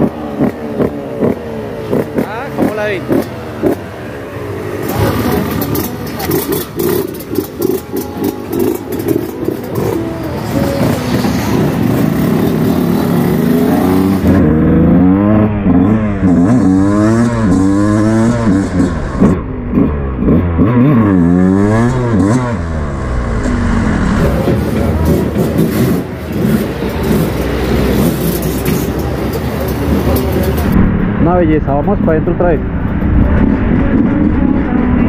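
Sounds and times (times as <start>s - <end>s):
two-stroke engine revving: 0.0s - 30.8s.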